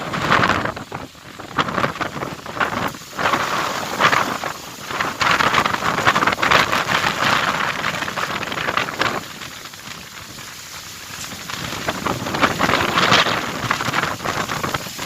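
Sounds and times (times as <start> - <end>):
strong gusting wind: 0.0 - 15.0.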